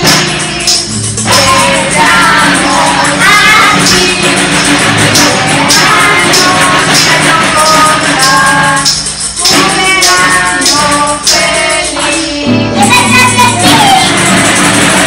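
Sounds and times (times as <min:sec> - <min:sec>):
snare drum played with sticks: 0:00.0 - 0:11.7, 0:12.8 - 0:15.0
acoustic guitar strummed: 0:00.0 - 0:15.0
people singing: 0:00.0 - 0:15.0
tambourine jingling: 0:00.0 - 0:15.0.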